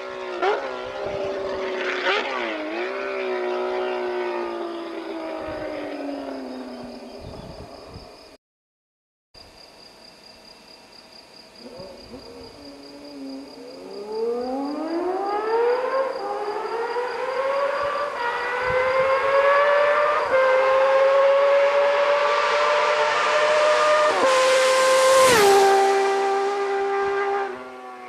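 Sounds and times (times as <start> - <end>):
motorcycle engine accelerating: 0.0 - 8.2, 11.6 - 28.0.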